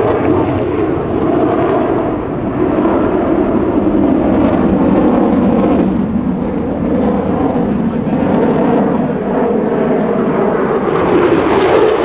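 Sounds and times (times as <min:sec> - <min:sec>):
jet aircraft engine roar: 0:00.0 - 0:12.0.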